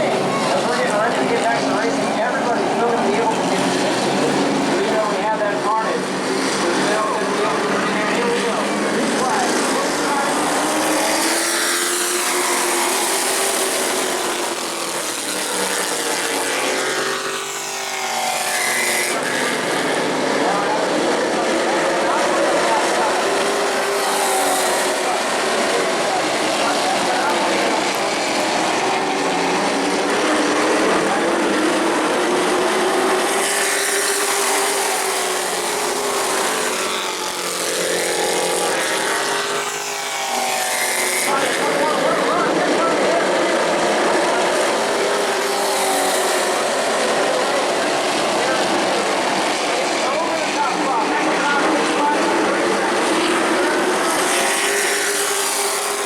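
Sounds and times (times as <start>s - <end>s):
race trucks accelerating: 0.0s - 56.0s.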